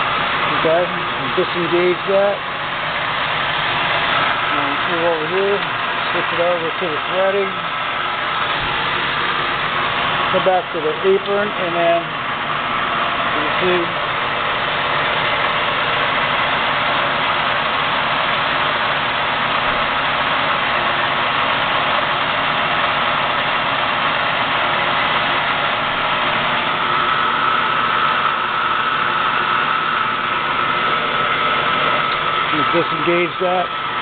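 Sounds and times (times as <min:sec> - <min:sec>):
lathe running: 0:00.0 - 0:34.0
steady high whine: 0:00.0 - 0:34.0.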